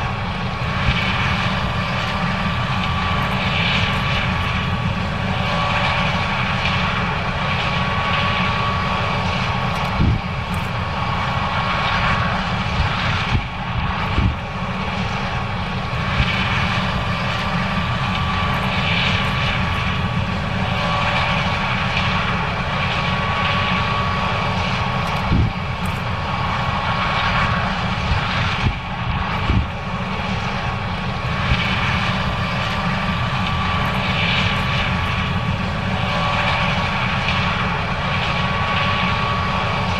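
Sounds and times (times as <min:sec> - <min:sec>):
combine harvester drone and whine: 0:00.0 - 0:39.9.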